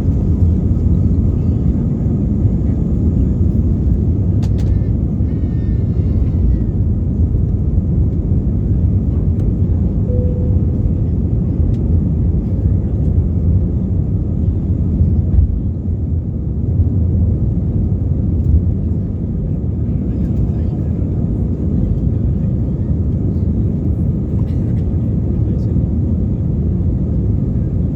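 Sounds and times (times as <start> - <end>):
aircraft engines and airflow rumble: 0.0 - 27.9.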